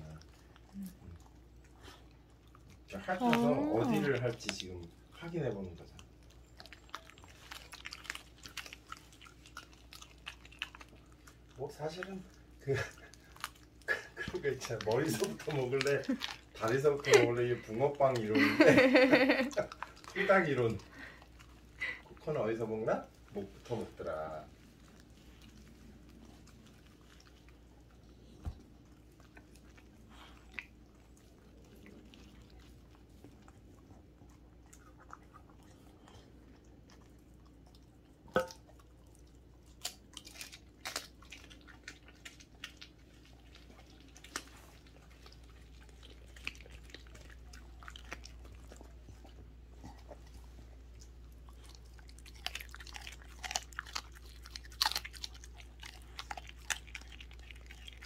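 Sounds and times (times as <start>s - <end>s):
dog crunching bones: 0.0s - 58.0s
dog wet mouthing: 0.0s - 58.0s.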